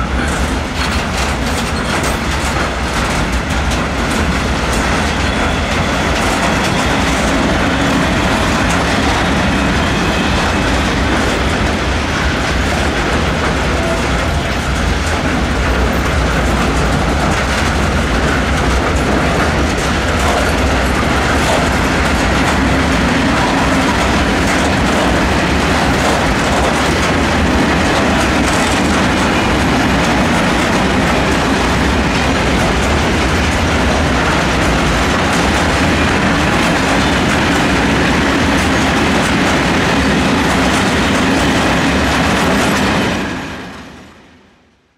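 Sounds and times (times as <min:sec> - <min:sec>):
train wheels clattering on rails: 0:00.0 - 0:44.3.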